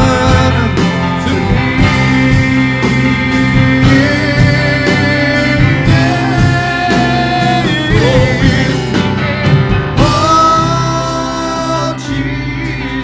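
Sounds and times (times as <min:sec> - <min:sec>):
worship band playing gospel song: 0:00.0 - 0:13.0.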